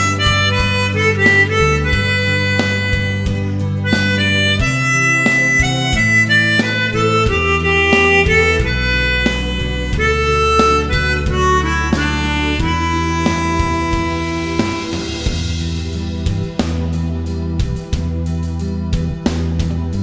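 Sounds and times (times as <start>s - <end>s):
backing track with bass: 0.0s - 20.0s
harmonica slow melody: 0.0s - 20.0s.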